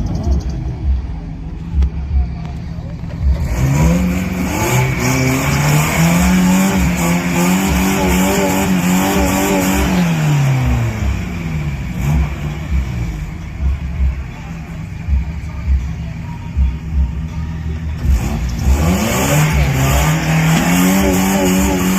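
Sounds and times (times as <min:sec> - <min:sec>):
engine revving: 0:00.0 - 0:21.9.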